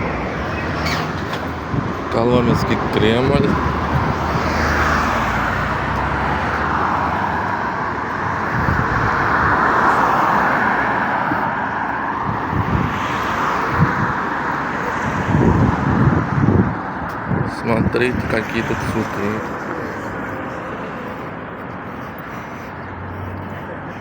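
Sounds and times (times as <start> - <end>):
street traffic passing: 0.0 - 24.0.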